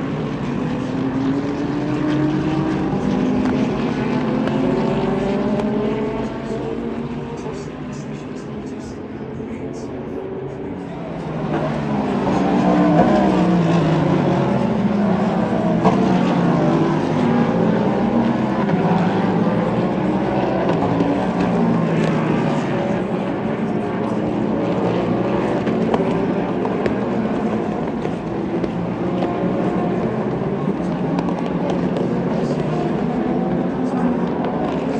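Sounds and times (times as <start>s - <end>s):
racing car engines passing: 0.0s - 34.9s.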